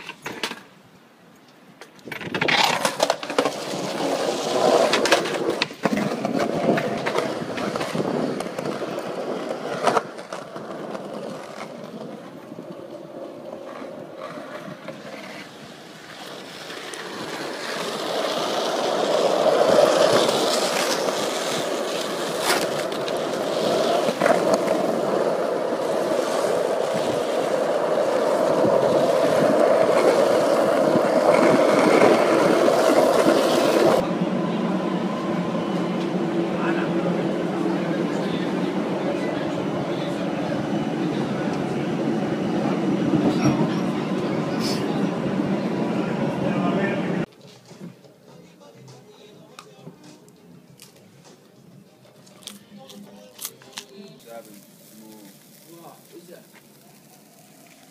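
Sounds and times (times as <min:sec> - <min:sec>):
skateboard wheels rolling on concrete: 0:00.0 - 0:57.9.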